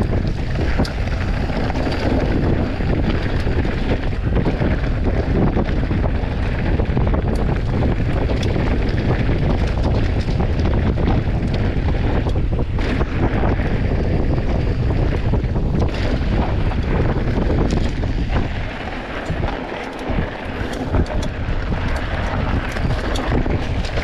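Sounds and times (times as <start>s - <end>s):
bike clicks and rattles: 0.0s - 24.0s
bike tyre noise on dirt: 0.0s - 24.0s
wind buffeting microphone: 0.0s - 24.0s.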